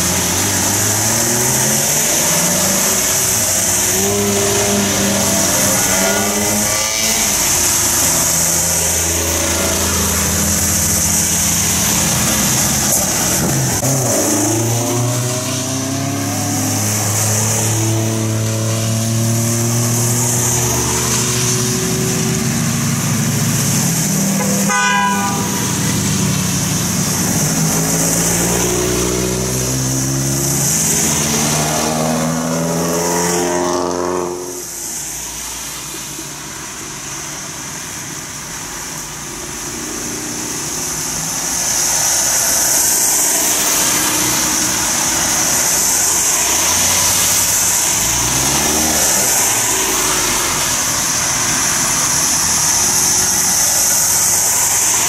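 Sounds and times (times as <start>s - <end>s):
cars and truck accelerating: 0.0s - 55.0s
tyres hissing on wet road: 0.0s - 55.0s.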